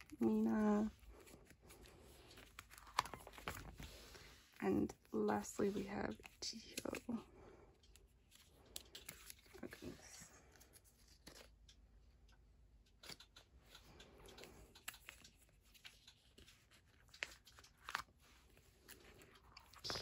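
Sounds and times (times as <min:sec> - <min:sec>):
plastic pocket page rustling: 0:00.0 - 0:07.1, 0:08.2 - 0:11.6, 0:14.3 - 0:20.0
small handling noises: 0:00.0 - 0:20.0.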